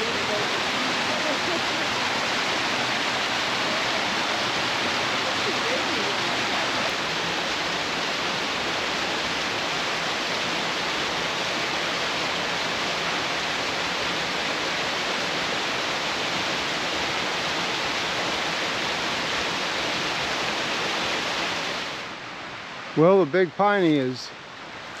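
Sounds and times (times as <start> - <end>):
swollen creek rushing: 0.0 - 25.0.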